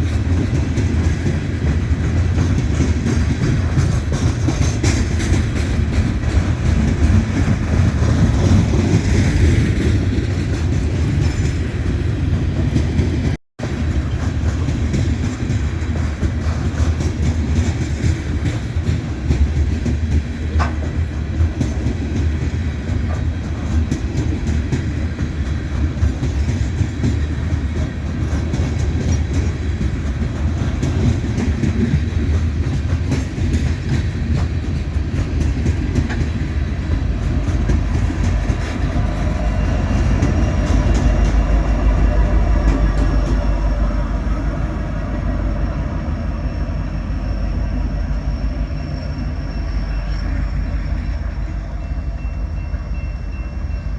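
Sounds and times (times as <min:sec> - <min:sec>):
deep train rumble: 0:00.0 - 0:53.9
train wheels clicking on rails: 0:00.0 - 0:53.9.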